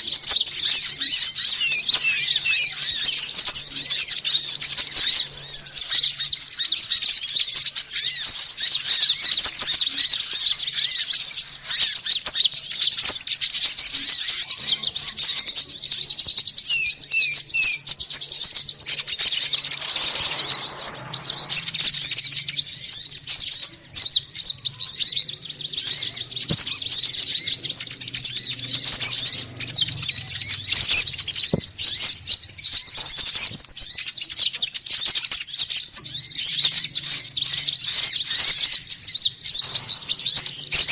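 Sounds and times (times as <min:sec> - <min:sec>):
down-slurred bird calls: 0:00.0 - 0:40.9
songbirds twittering: 0:00.0 - 0:40.9.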